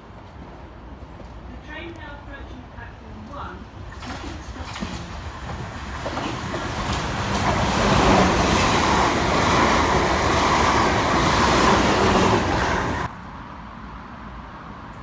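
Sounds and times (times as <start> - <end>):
train running past: 0.0 - 13.3.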